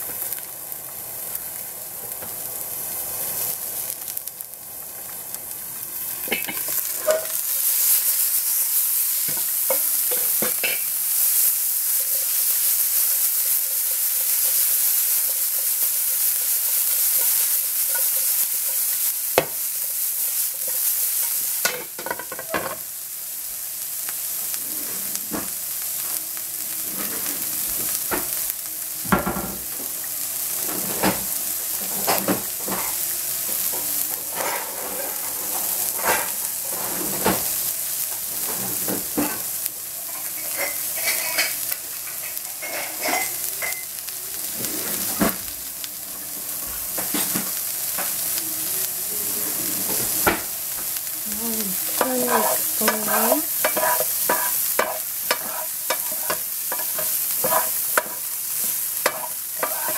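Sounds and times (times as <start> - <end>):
vegetables sizzling in oil: 0.0 - 59.9.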